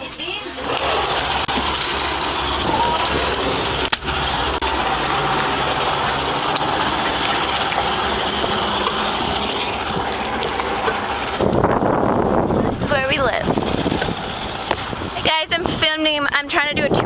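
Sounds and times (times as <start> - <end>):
motor running: 0.5 - 15.8.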